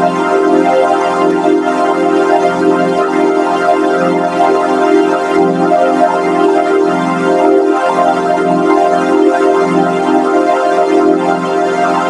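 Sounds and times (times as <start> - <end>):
synth chord with flanger: 0.0 - 12.0.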